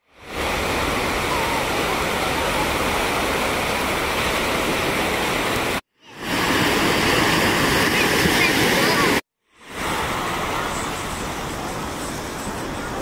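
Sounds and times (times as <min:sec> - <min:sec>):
small ocean waves breaking: 0:00.0 - 0:13.0.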